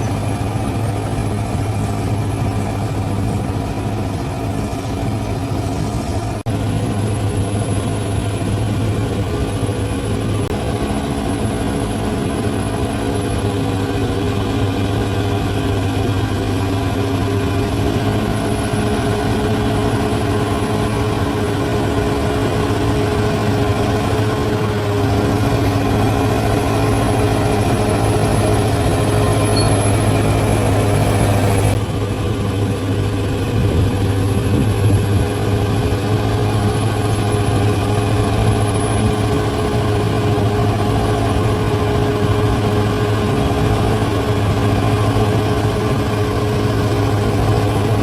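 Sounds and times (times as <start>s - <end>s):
bulldozer diesel engine drone: 0.0s - 48.0s.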